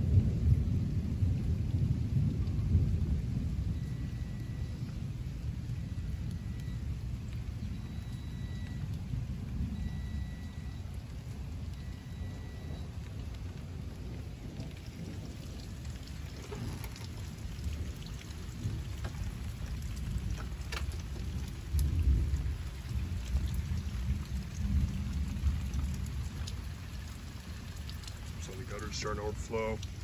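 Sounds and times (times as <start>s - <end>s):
raindrops dripping: 0.0s - 30.0s
thunder rumbling: 0.0s - 30.0s.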